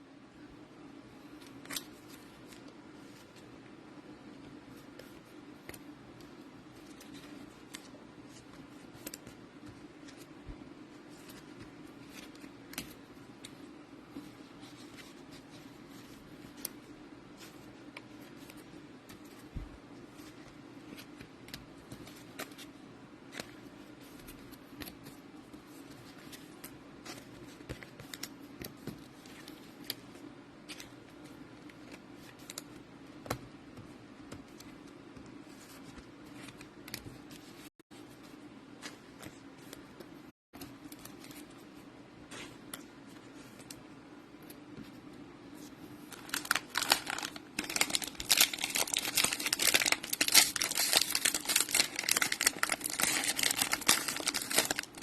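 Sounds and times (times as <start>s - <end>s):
cards and wrappers rustling: 6.7s - 44.8s, 45.6s - 55.0s.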